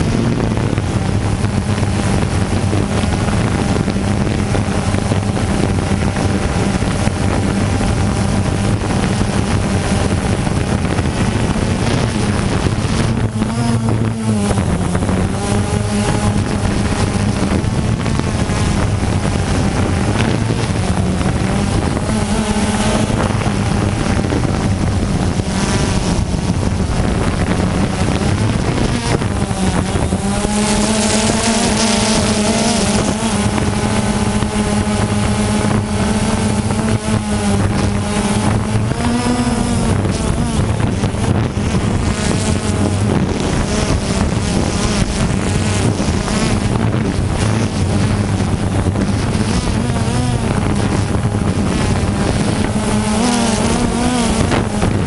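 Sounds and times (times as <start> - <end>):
drone propellers buzzing: 0.0 - 55.0.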